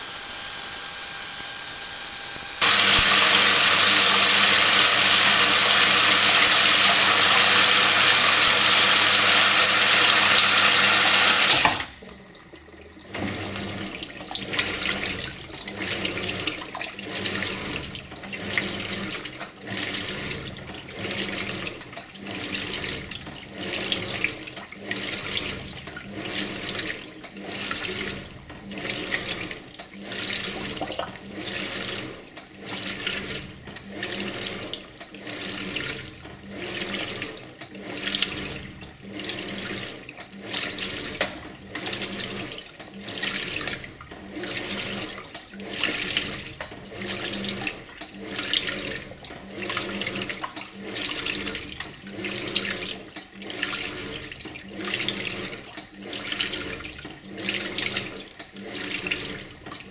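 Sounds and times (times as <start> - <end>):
washer agitator swishing water: 0.0 - 59.9
water rushing into washer tub: 0.0 - 59.9.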